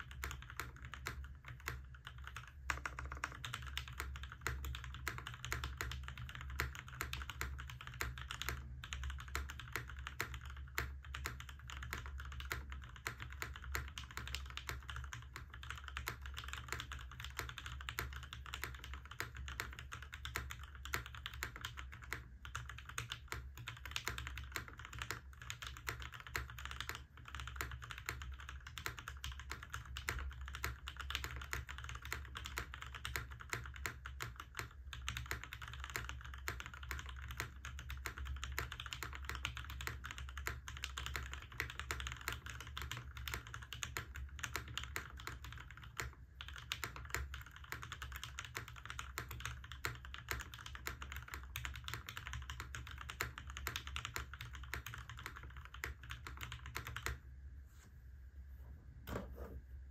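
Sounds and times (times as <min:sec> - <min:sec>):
fast typing on mechanical keyboard: 0:00.0 - 0:57.2.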